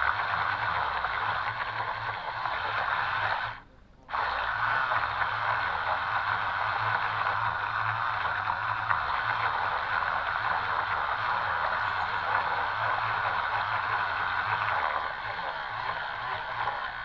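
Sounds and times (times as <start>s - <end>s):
toy boat motors whirring: 0.0s - 17.0s
water noise: 0.0s - 17.0s.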